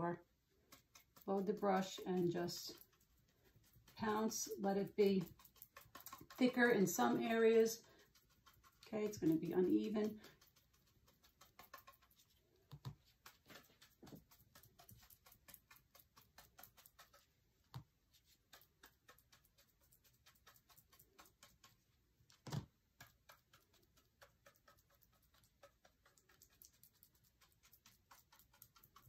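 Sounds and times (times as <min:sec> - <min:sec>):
brush tapping rapidly: 0:00.0 - 0:29.0.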